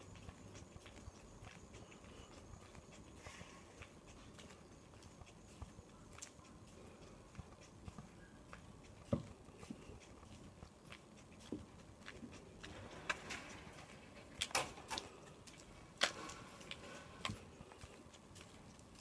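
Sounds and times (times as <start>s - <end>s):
footsteps on asphalt: 0.0s - 19.0s.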